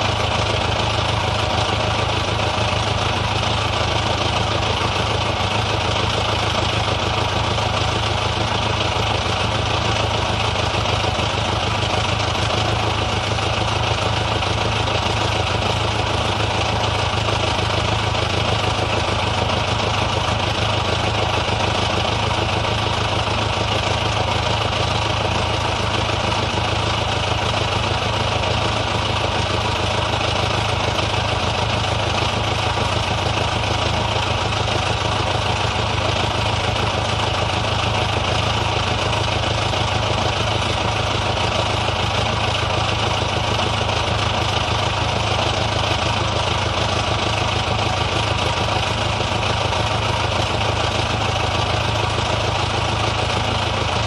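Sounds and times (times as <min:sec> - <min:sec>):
old car engine idling: 0:00.0 - 0:54.0.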